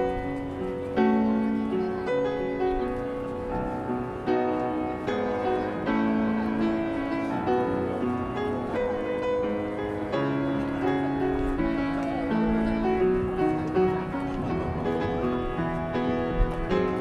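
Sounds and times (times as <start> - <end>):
upright piano playing slow ballad: 0.0 - 17.0.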